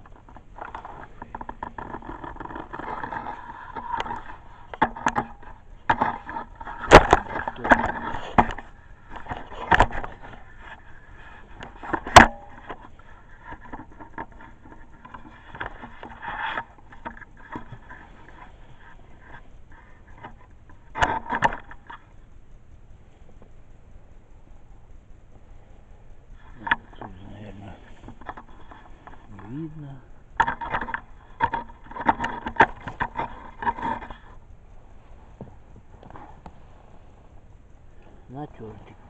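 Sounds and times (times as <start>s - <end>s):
gear scraping: 0.0s - 22.2s, 26.3s - 35.4s.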